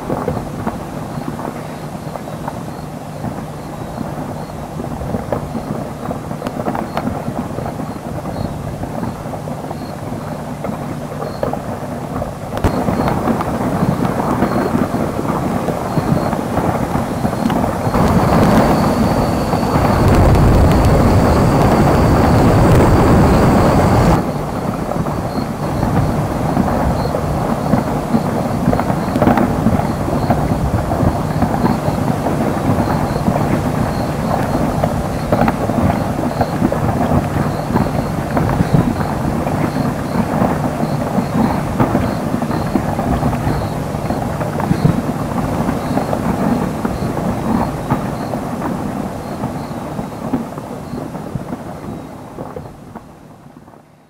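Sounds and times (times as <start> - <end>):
rockfall rumble with crackling: 0.0 - 53.8.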